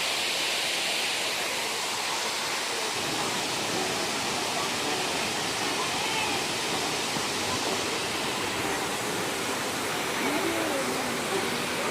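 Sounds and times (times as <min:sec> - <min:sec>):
waterfall rushing: 0:00.0 - 0:11.9
faint voices of people: 0:01.0 - 0:11.9.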